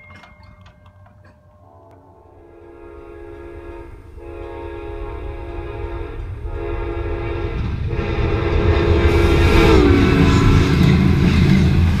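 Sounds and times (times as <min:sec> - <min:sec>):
locomotive rumble: 0:00.0 - 0:12.0
train horn blasts: 0:01.6 - 0:11.5.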